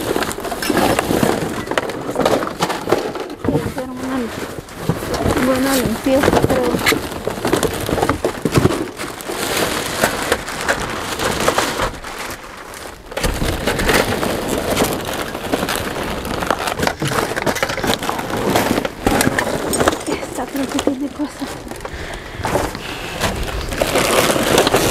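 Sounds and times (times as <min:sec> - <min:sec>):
rustling and crinkling of bags: 0:00.0 - 0:24.9.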